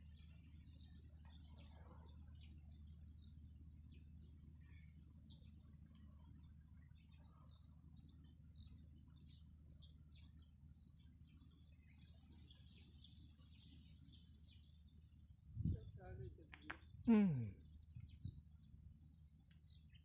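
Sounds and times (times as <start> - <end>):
faint small birds chirping: 0.0 - 20.0
low steady hum: 0.0 - 20.0.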